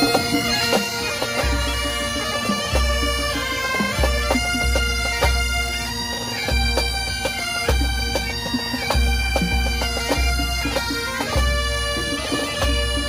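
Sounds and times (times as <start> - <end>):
bagpipes playing a melody: 0.0 - 13.0
drum strikes: 0.0 - 13.0.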